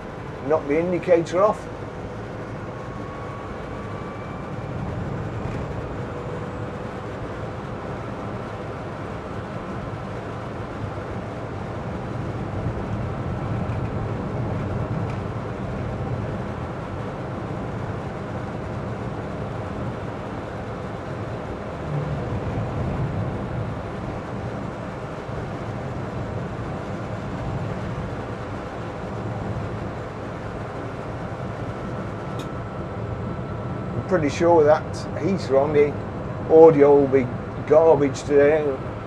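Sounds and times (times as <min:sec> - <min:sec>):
road and tyre rumble: 0:00.0 - 0:39.0.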